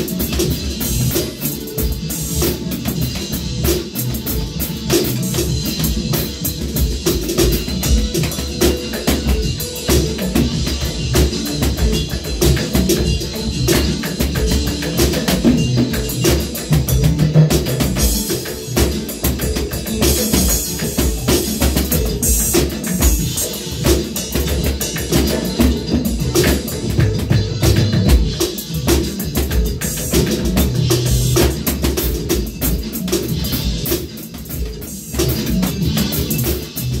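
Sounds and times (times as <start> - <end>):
drum kit playing a groove: 0.0 - 37.0.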